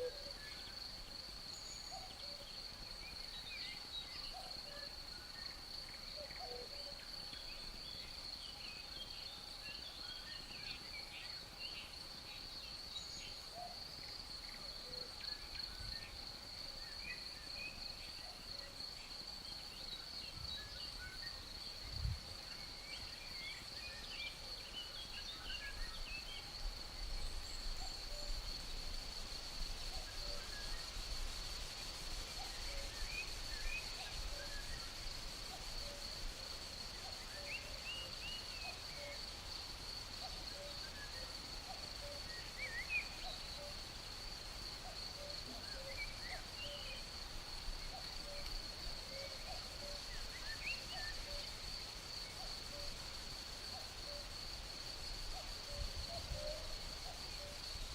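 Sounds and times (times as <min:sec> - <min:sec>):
insect drone: 0:00.0 - 0:57.9.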